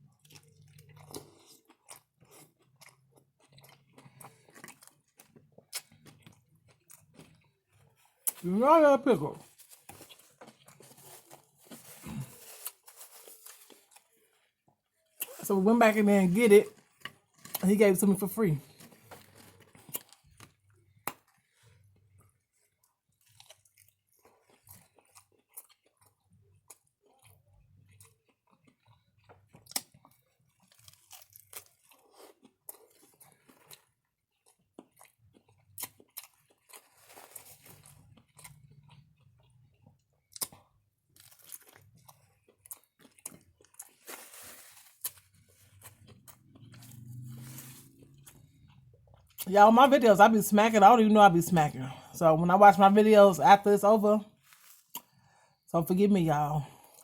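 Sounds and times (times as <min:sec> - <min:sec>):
person chewing food: 0:00.0 - 0:08.4, 0:09.4 - 0:15.4, 0:16.6 - 0:17.6, 0:18.6 - 0:49.5, 0:54.3 - 0:55.7, 0:56.6 - 0:57.0
food crunching: 0:00.0 - 0:08.6, 0:09.3 - 0:50.0, 0:54.3 - 0:55.7.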